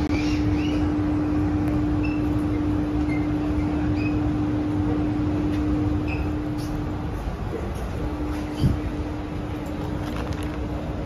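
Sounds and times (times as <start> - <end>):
air-conditioning fan hum: 0.0 - 11.0.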